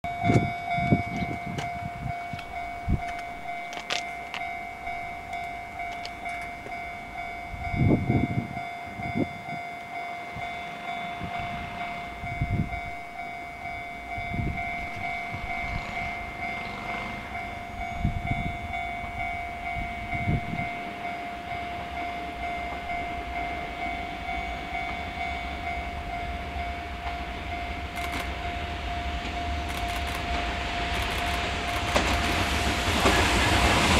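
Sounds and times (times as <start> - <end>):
freight train running: 0.0 - 33.9.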